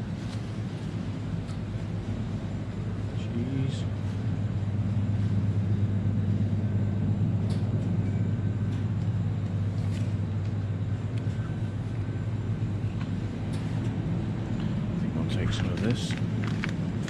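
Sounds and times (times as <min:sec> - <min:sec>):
chiller cabinets humming: 0:00.0 - 0:17.0.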